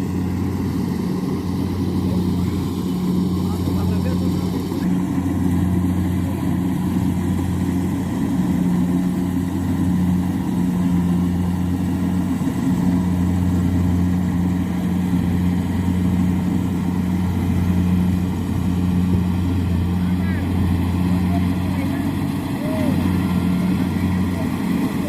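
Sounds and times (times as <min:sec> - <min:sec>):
combine harvester engine humming: 0:00.0 - 0:25.0.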